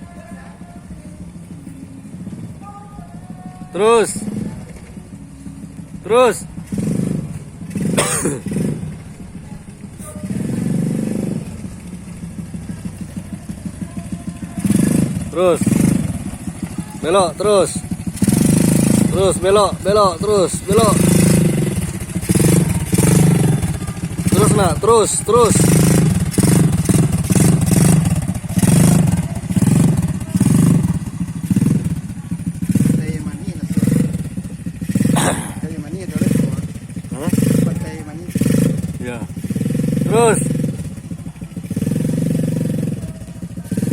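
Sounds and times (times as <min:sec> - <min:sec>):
atv engine revving and idling: 0:00.0 - 0:43.9.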